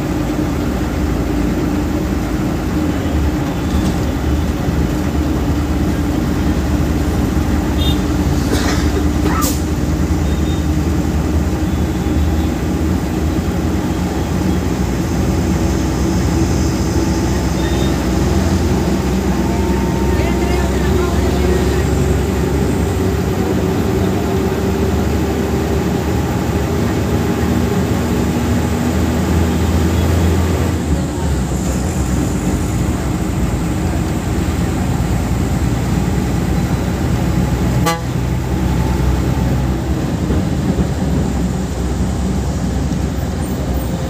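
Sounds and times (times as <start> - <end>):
bus diesel engine droning: 0.0 - 44.0
road noise: 0.0 - 44.0.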